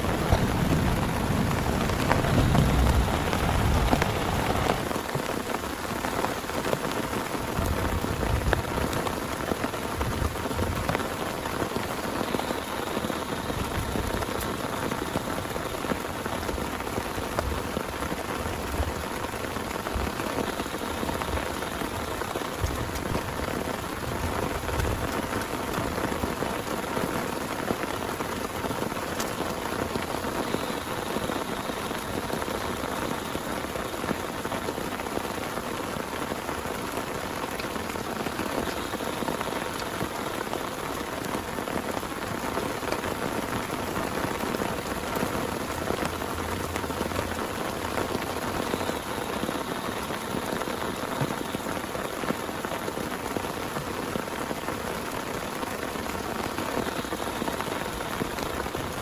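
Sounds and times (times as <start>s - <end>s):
thunder rumble: 0.0s - 52.6s
heavy rain falling: 0.0s - 59.0s.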